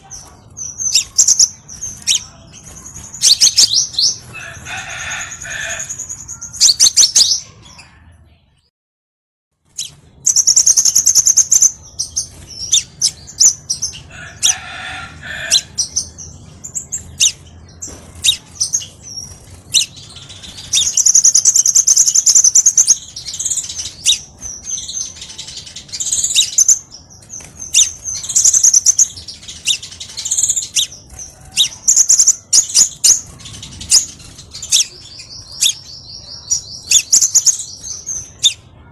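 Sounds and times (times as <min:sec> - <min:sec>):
bird chirps and trills: 0:00.0 - 0:08.6, 0:09.6 - 0:38.9.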